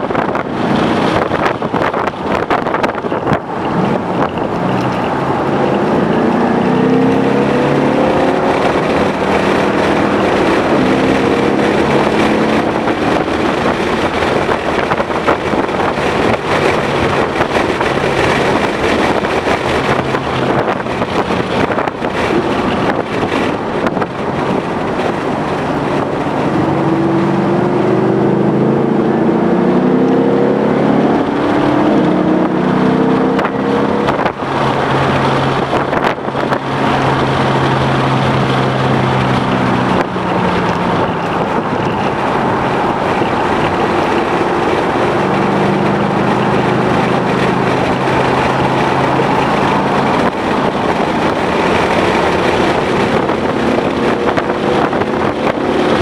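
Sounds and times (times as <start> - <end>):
car engine revving hard: 0.0 - 56.0
wind and road noise: 0.0 - 56.0.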